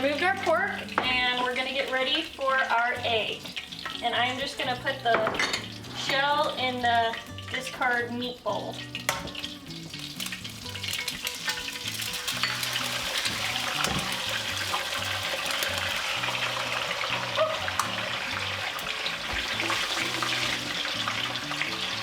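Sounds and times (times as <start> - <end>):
background music: 0.0 - 22.0
eggs sizzling in hot oil: 0.0 - 22.0.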